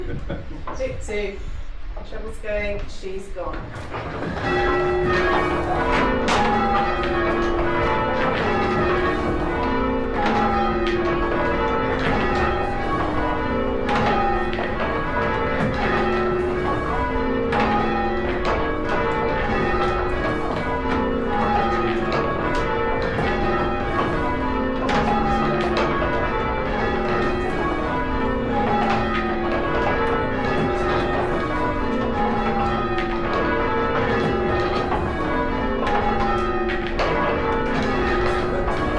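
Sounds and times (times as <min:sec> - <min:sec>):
church bells ringing peal: 0:02.1 - 0:38.9.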